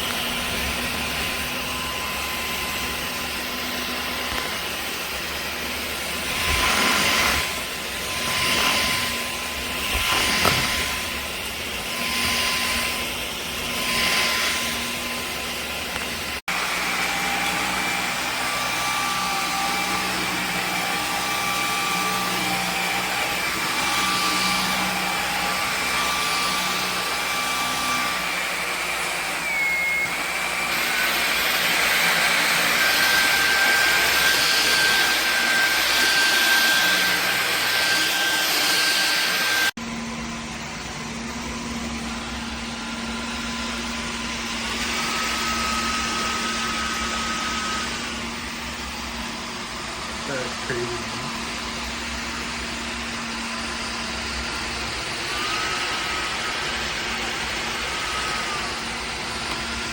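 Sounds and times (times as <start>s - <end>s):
stick vacuum cleaner running: 0.0s - 59.9s.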